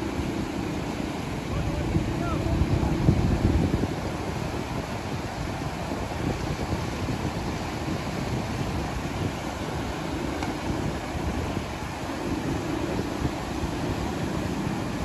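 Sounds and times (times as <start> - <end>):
rocky mountain stream rushing: 0.0 - 15.0
wind buffeting microphone: 0.0 - 15.0.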